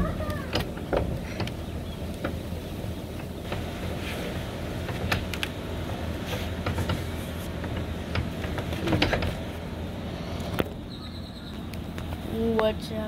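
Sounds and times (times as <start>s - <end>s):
phone handling rumble: 0.0s - 12.6s.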